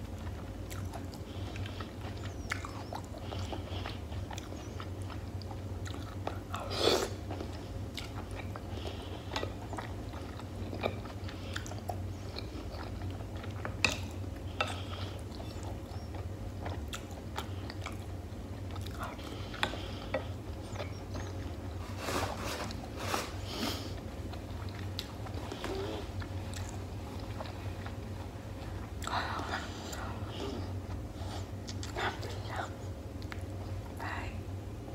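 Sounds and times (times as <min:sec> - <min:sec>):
chewing and wet mouth sounds: 0:00.0 - 0:34.4
steady low hum: 0:00.0 - 0:34.9.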